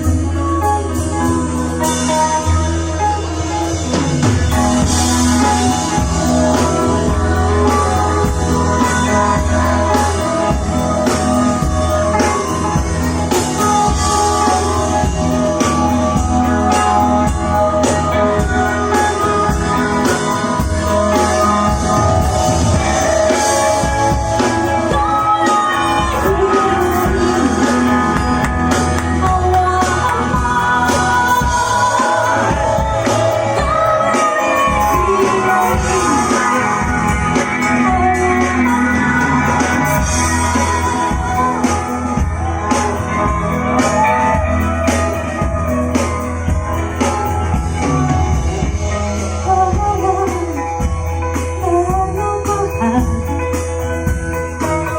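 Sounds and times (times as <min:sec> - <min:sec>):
bass guitar: 0:00.0 - 0:54.9
electric guitar: 0:00.0 - 0:54.9
person singing: 0:00.0 - 0:54.9
steady drum beat: 0:03.8 - 0:54.9.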